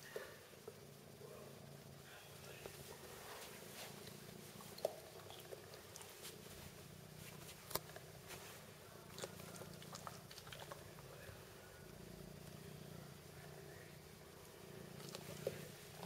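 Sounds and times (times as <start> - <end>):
low steady purr: 0.0 - 16.0.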